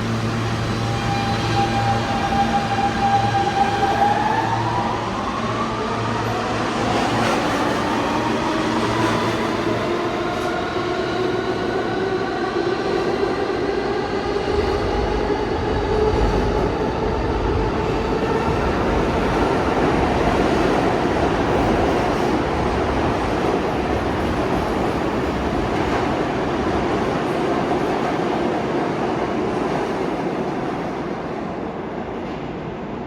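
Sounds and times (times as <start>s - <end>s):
subway train motors whining: 0.0s - 33.0s.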